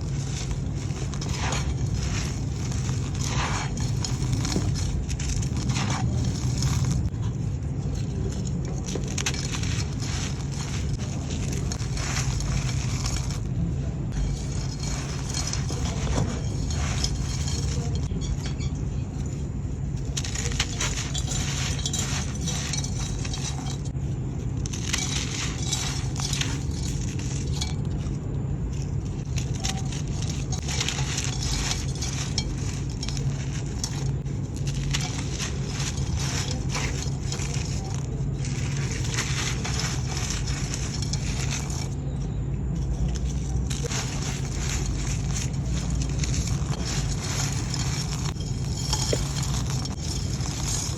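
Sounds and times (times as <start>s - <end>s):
clay chunks crunching: 0.0s - 50.9s
steady low hum: 0.0s - 50.9s.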